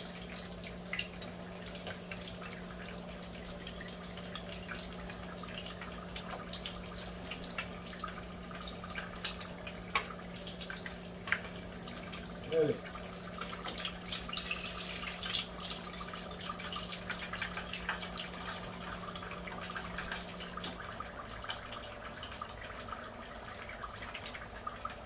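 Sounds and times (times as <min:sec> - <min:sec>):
hot oil sizzling and crackling: 0:00.0 - 0:25.0.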